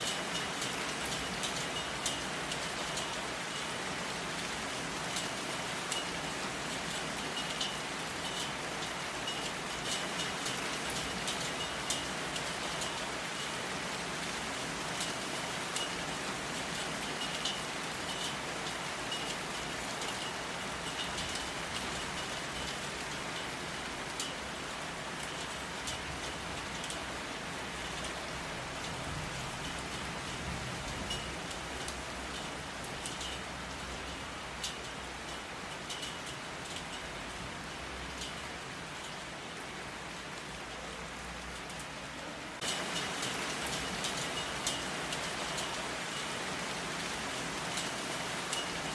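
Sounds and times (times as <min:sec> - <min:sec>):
raindrops ticking sharply: 0:00.0 - 0:48.9
steady rain falling: 0:00.0 - 0:48.9.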